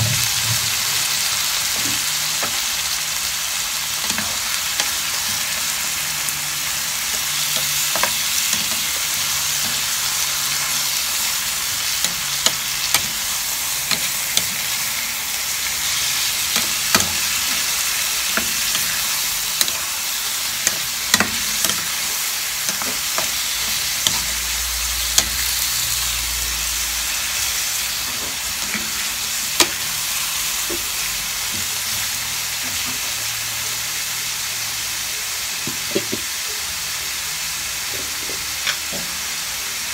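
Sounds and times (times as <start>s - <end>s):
chicken sizzling in frying pan: 0.0s - 39.9s.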